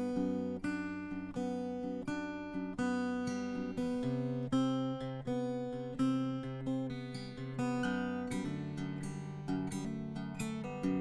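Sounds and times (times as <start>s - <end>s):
acoustic guitar plucked and strummed: 0.0s - 11.0s.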